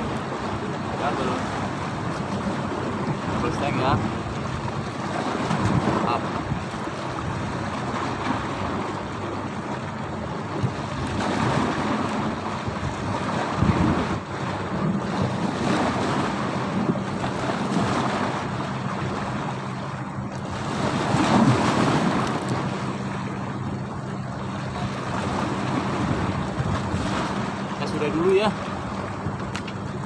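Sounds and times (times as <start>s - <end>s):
boat engine low hum: 0.0s - 30.0s
waves slapping against boat: 0.0s - 30.0s
wind buffeting microphone: 0.0s - 30.0s.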